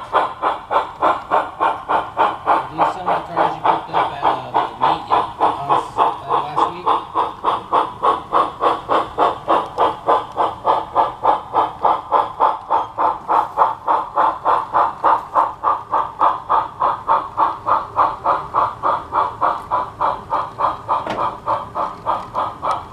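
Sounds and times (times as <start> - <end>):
steam locomotive exhaust chuffs: 0.0 - 22.9.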